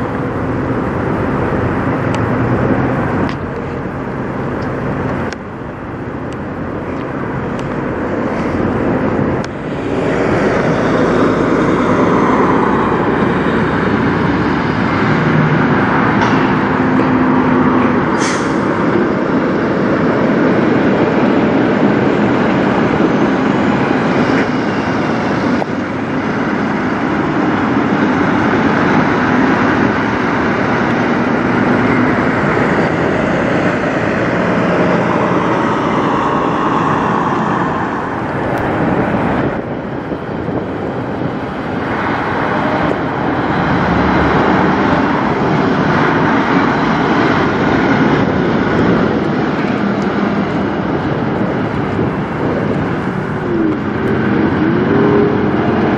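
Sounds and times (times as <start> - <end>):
diesel truck engines under load: 0.0 - 55.9.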